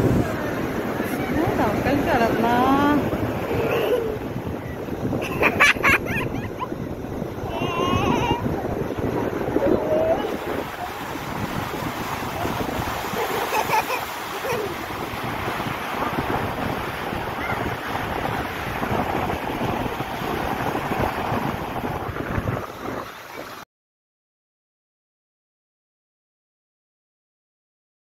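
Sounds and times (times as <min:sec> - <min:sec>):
sea surf washing up a beach: 0:00.0 - 0:23.6
wind buffeting the microphone: 0:00.0 - 0:23.6.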